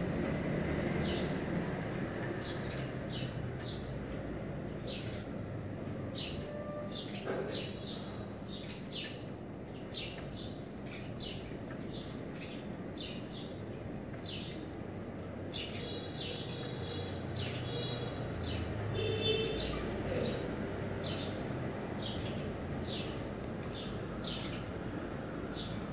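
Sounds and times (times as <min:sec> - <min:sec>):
sparrows chirping: 0:00.0 - 0:25.9.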